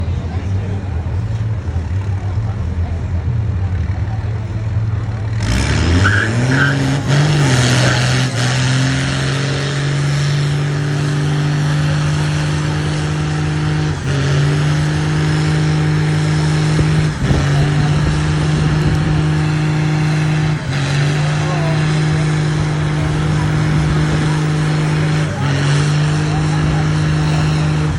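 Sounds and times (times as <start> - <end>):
engine revving high: 3.7 - 27.9.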